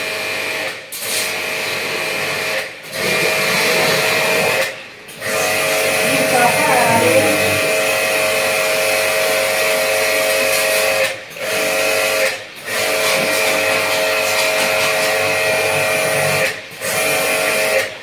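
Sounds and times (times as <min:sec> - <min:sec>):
pump motor whine: 0:00.0 - 0:18.0.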